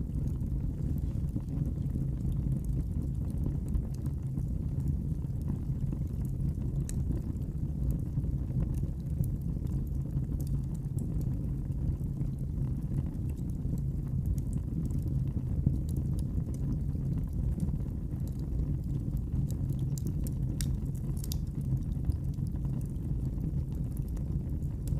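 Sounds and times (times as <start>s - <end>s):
low fire rumble: 0.0s - 24.9s
wood fire crackling: 0.0s - 24.9s.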